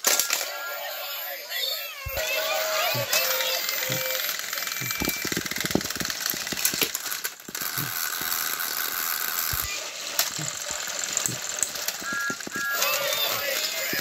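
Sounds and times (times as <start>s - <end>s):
toy train motors whirring: 0.0s - 14.0s.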